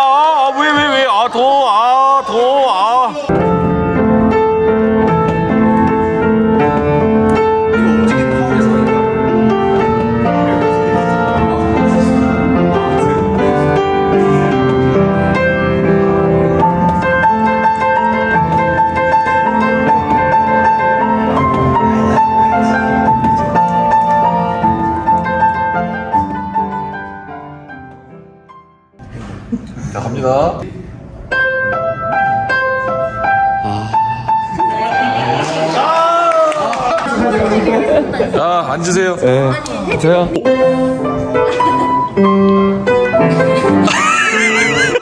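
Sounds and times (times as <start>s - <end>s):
piano music: 0.0s - 29.1s, 31.2s - 45.0s.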